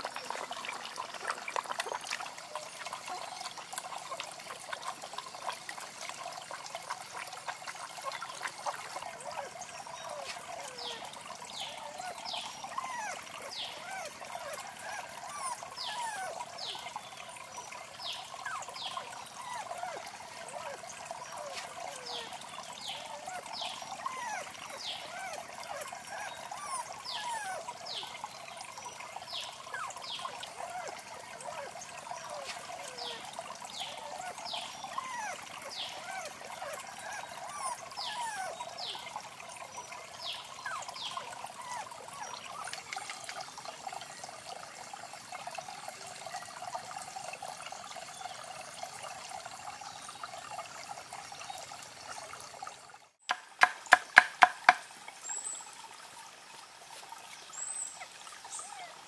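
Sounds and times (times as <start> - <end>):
fountain water trickling: 0.0 - 59.0.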